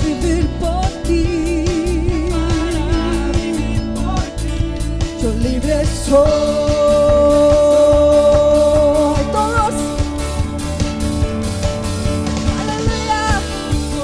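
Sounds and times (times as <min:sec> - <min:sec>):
woman singing: 0:00.0 - 0:10.2, 0:12.4 - 0:14.0
acoustic guitar and band: 0:00.0 - 0:14.0.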